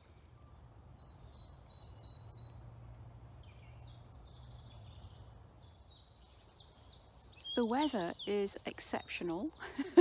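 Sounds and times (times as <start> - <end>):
songbird singing: 0.0 - 10.0.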